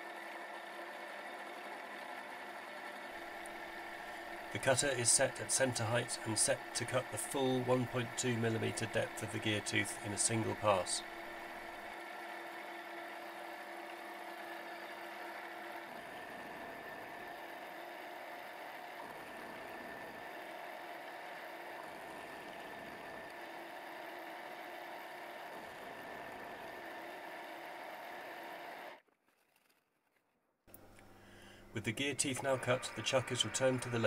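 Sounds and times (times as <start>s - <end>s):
milling machine whirring: 0.0s - 29.0s, 30.8s - 34.0s.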